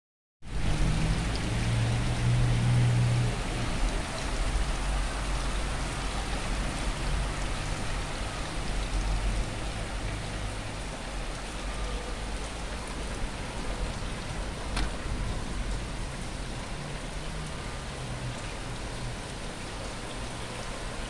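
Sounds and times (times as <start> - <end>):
steady rain falling: 0.4 - 21.0.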